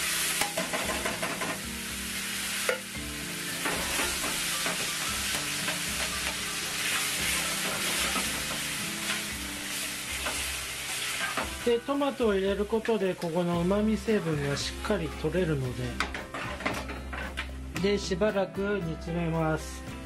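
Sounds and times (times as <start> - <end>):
pancetta and onion sizzling: 0.0 - 18.3.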